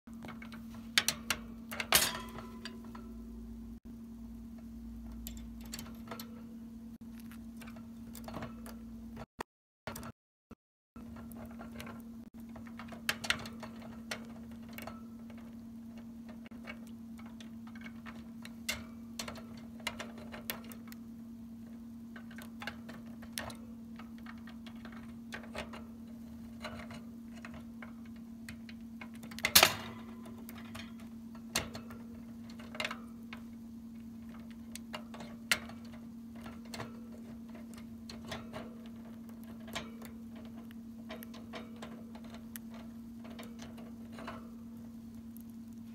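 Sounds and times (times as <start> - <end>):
steady low hum: 0.1 - 9.3, 11.0 - 45.9.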